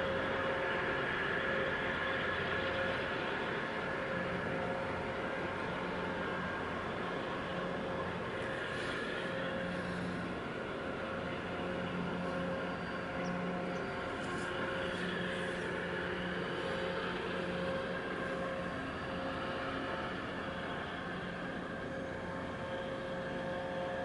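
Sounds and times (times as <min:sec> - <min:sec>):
ship engine drone: 0:00.0 - 0:24.0.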